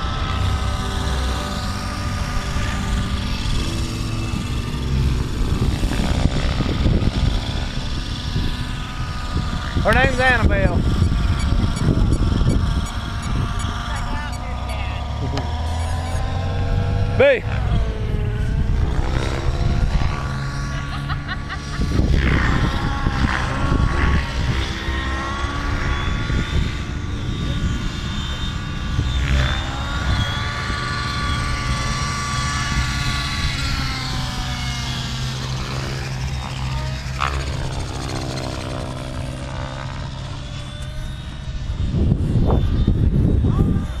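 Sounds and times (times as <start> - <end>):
model aircraft engine whine: 0.0 - 44.0
steady low hum: 0.0 - 44.0.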